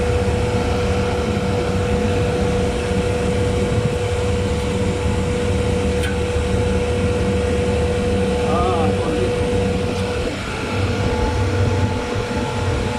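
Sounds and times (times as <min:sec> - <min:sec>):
chiller machinery humming: 0:00.0 - 0:12.9.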